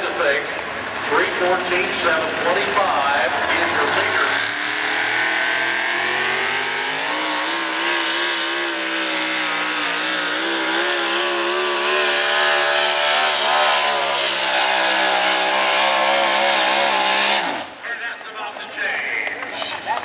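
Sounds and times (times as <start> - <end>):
truck engine running at high revs: 0.0 - 18.0.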